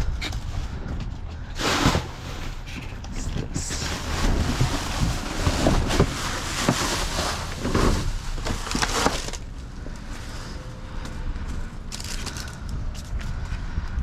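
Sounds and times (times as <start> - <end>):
rustling and clattering of items: 0.0 - 13.5.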